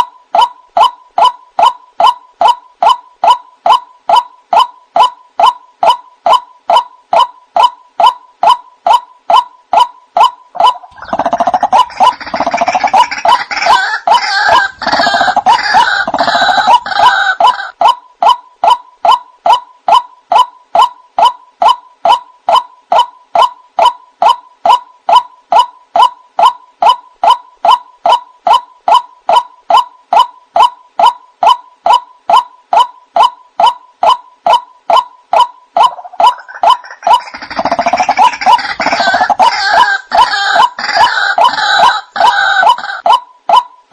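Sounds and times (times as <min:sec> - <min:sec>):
harsh overlapping bird calls: 0:00.0 - 0:43.9
waterhen calling kwak notes: 0:00.0 - 0:43.9.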